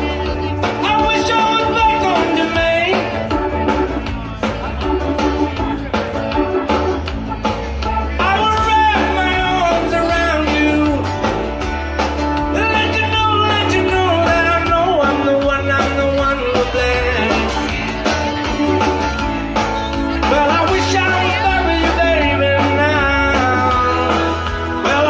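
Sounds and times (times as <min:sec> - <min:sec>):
live rock band through pa: 0:00.0 - 0:25.0
strong bass line: 0:00.0 - 0:25.0.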